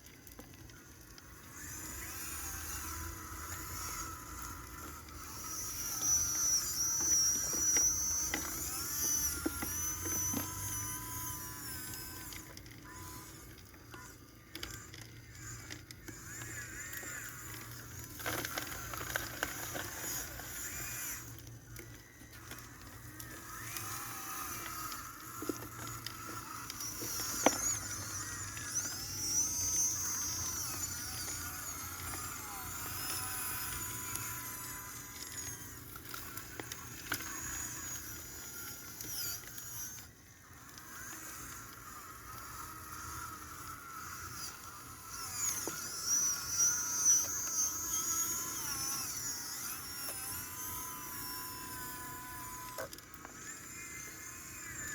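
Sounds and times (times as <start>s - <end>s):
small electric motors whining: 0.0s - 54.9s.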